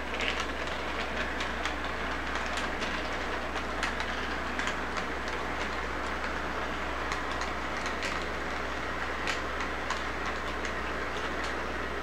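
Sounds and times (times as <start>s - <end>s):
model train rumbling: 0.0s - 12.0s
wheels clicking over track: 0.0s - 12.0s.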